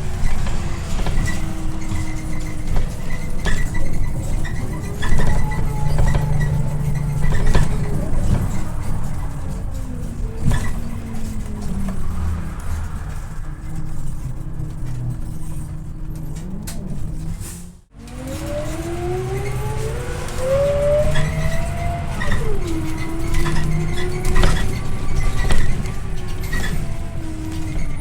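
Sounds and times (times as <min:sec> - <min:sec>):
bus engine rumble: 0:00.0 - 0:28.0
rising bus whine: 0:00.0 - 0:28.0.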